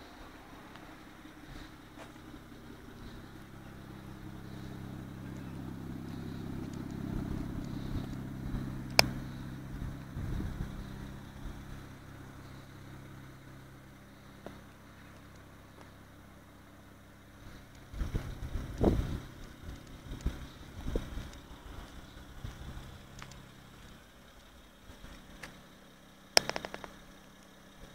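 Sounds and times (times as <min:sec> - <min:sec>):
sharp exhaust crack: 0:00.0 - 0:25.6, 0:26.3 - 0:27.3
car engine exhaust note: 0:00.0 - 0:27.9.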